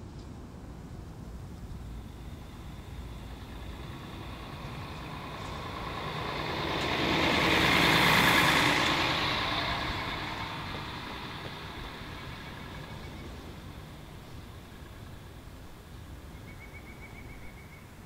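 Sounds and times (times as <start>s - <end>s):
bus driving past: 1.2s - 18.0s.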